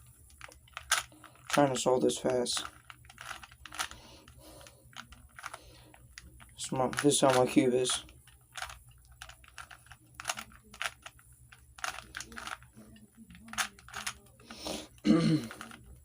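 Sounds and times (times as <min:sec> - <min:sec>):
puzzle cube plastic clicking: 0:00.3 - 0:16.0.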